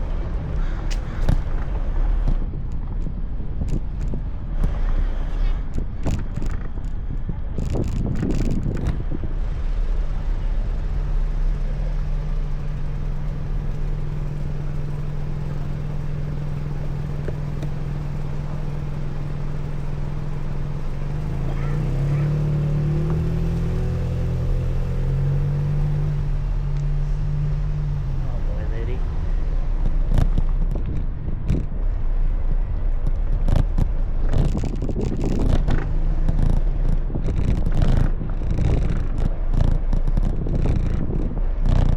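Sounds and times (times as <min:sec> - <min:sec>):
road and wind noise: 0:00.0 - 0:41.9
vehicle engine humming: 0:00.0 - 0:41.9.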